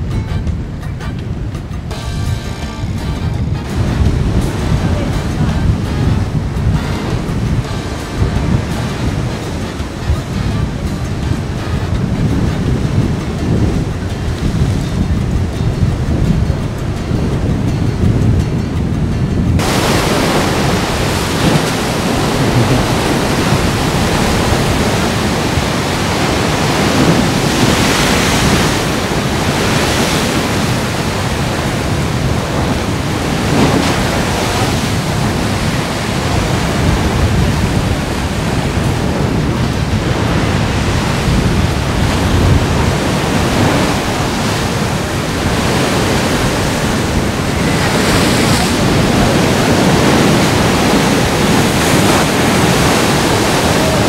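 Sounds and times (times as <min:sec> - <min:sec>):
wind buffeting microphone: 0:00.0 - 0:54.0
sea surf crashing on rocks: 0:02.8 - 0:54.0.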